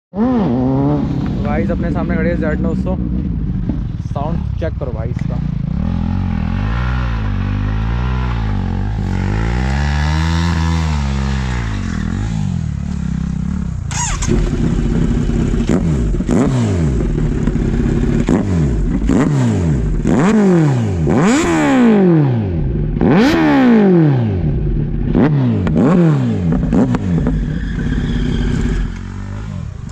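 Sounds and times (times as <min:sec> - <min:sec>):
motorcycle engine revving: 0:00.1 - 0:29.9.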